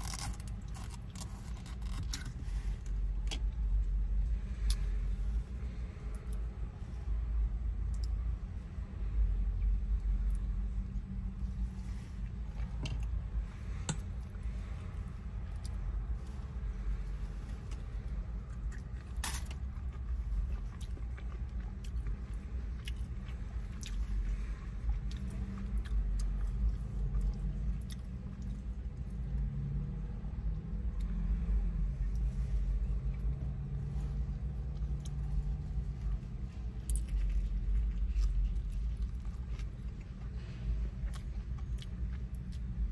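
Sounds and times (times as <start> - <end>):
chewing and biting food: 0.0 - 4.9, 10.0 - 29.5, 30.3 - 42.9
low rumble inside car: 0.0 - 42.9.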